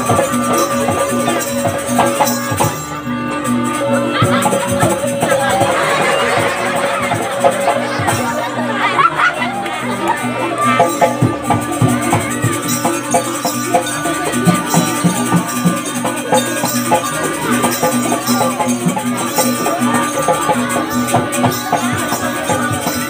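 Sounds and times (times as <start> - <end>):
drum and percussion strikes: 0.0 - 23.0.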